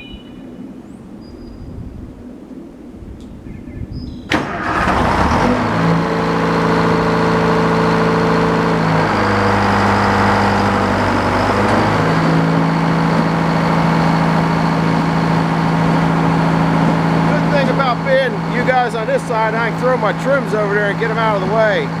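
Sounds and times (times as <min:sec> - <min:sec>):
sawmill engine running: 0:04.3 - 0:22.0.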